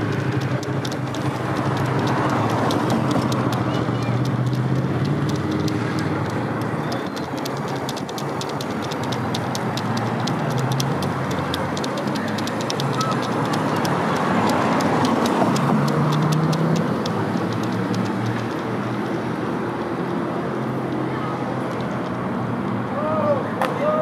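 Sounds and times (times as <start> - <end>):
rapid sharp clicks: 0.0 - 22.3
passing traffic rumble: 0.0 - 24.0.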